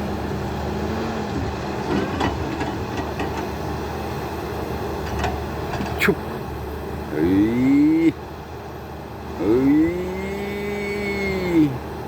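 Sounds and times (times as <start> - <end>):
backhoe diesel engine running: 0.0 - 12.0.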